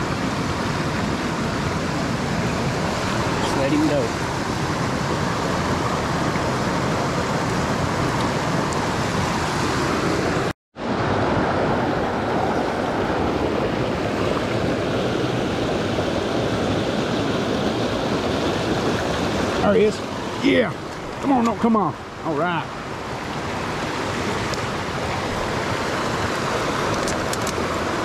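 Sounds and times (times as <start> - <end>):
rushing creek water: 0.0 - 28.0.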